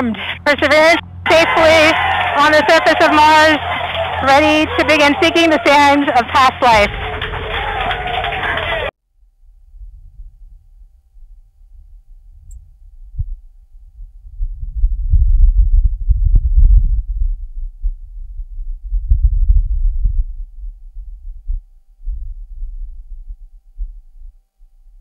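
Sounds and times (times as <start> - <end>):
low gusty wind rumble: 0.0 - 25.0.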